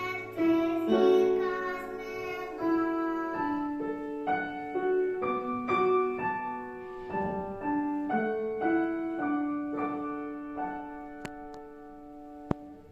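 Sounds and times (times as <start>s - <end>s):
keyboard playing slow melody: 0.0s - 12.9s.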